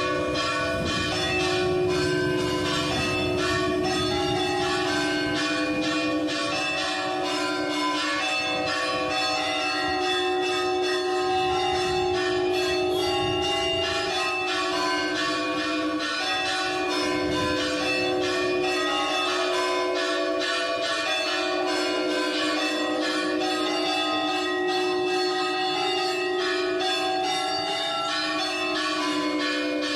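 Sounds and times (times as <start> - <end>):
church bells pealing: 0.0 - 29.9.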